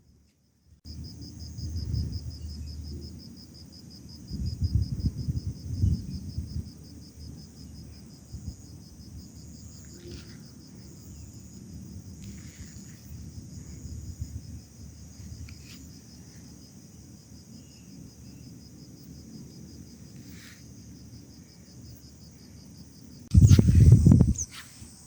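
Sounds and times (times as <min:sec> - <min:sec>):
insects chirping: 0:00.0 - 0:25.0
high insect trill: 0:00.4 - 0:25.0.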